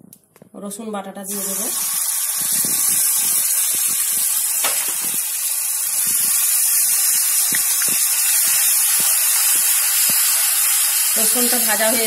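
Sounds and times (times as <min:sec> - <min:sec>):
garlic sizzling in hot oil: 0:01.3 - 0:12.0.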